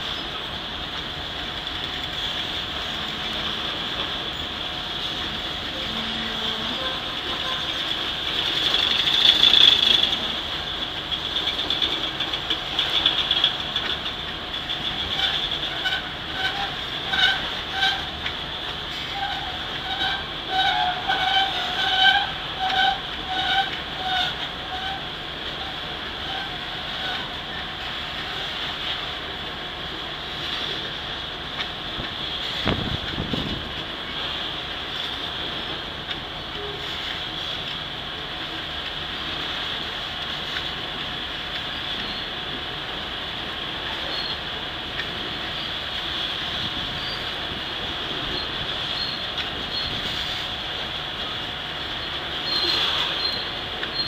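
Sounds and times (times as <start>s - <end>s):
freight train rolling past: 0.0s - 54.0s
steel wheels on rail: 0.0s - 54.0s.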